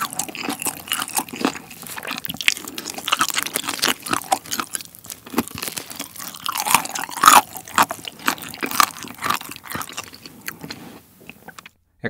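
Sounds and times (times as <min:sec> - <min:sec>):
crunching and chewing fried chicken: 0:00.0 - 0:11.8.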